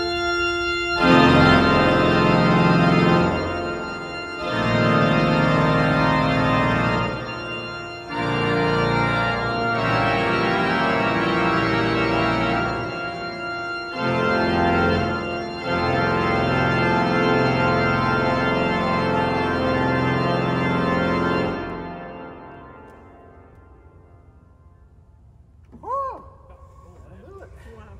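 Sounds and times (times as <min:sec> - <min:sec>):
pipe organ chords: 0:00.0 - 0:25.4.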